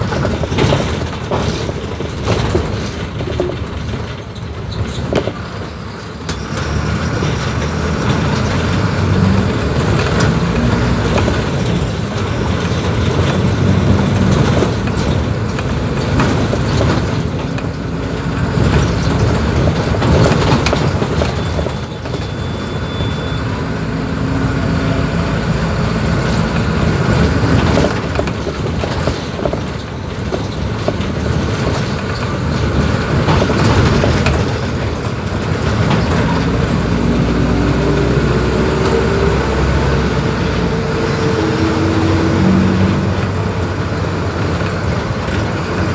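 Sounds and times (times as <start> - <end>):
bus diesel engine running: 0.0 - 45.9
road noise: 0.0 - 45.9.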